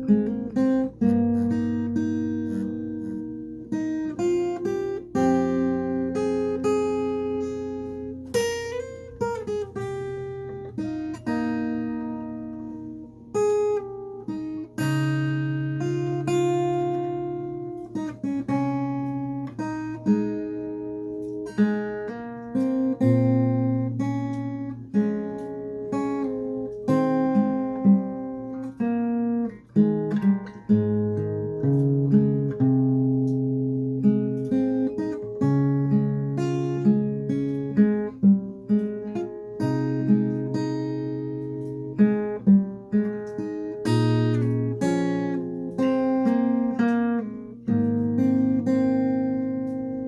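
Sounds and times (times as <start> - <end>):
fingerpicked acoustic guitar: 0.0 - 50.0.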